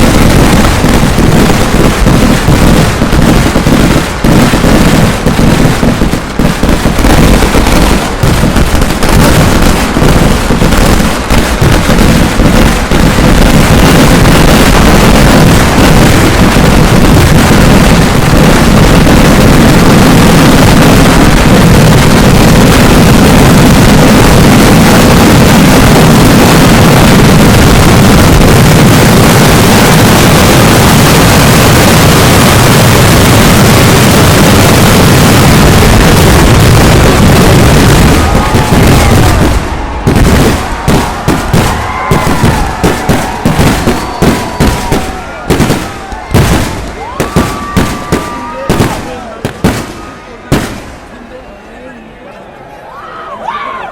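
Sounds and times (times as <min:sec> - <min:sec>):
firecracker blasts: 0:00.0 - 0:51.3.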